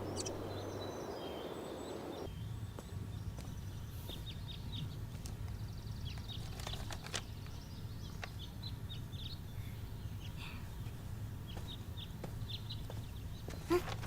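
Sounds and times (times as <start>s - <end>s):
low background hum: 0.0s - 14.0s
small birds chirping: 0.0s - 14.0s.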